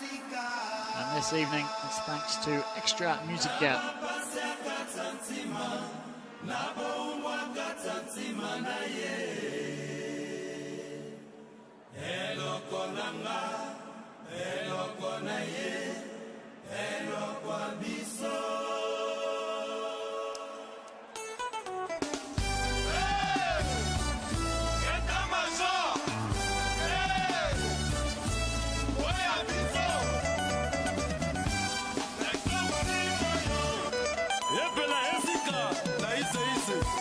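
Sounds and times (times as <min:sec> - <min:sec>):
group singing unaccompanied chant: 0:00.0 - 0:21.4, 0:22.8 - 0:23.9, 0:24.8 - 0:27.9, 0:29.0 - 0:30.3, 0:32.0 - 0:37.0.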